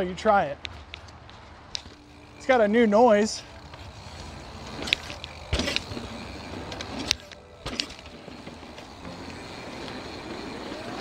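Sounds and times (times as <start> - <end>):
bike tyres and wind rushing: 0.0 - 11.0
bike clacking over bumps: 1.8 - 11.0.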